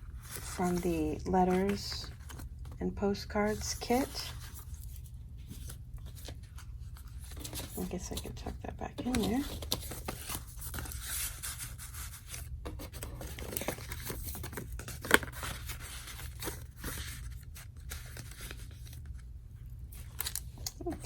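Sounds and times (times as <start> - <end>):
paper and card rustling: 0.0 - 21.0.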